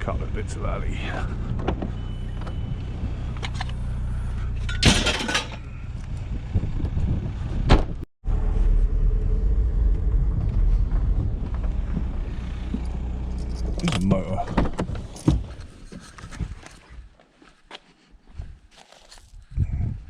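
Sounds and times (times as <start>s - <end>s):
car engine rumbling: 0.0s - 16.6s.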